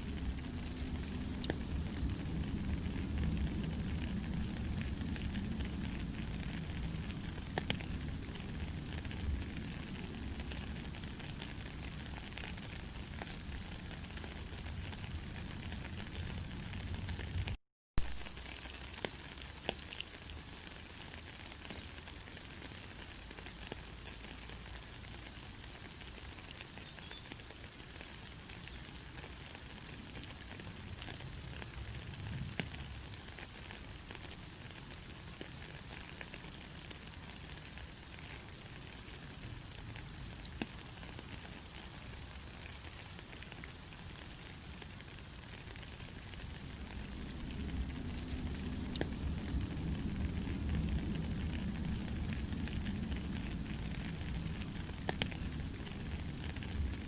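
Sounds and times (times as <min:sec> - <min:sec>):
faint crackles and ticks: 0:00.0 - 0:57.0.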